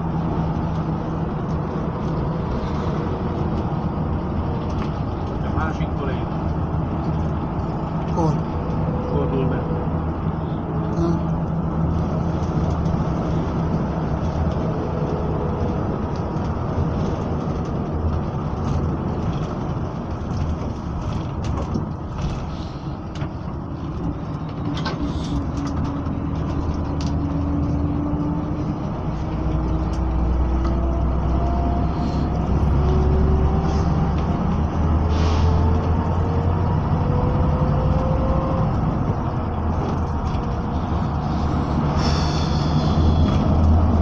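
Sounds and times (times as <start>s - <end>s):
bus engine running: 0.0s - 44.0s
road noise: 0.0s - 44.0s.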